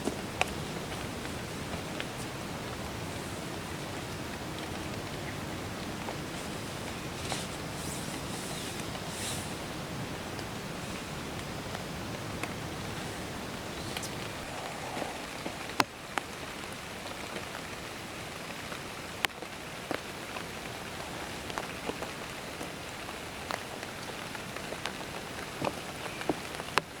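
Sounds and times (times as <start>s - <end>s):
rain hissing: 0.0s - 26.7s
raindrops ticking: 0.0s - 27.0s.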